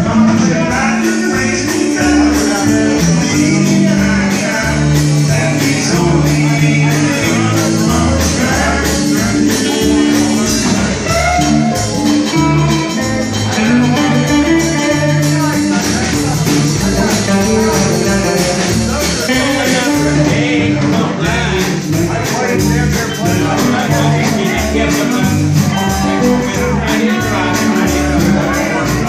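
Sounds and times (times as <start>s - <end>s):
rock band music: 0.0s - 29.0s.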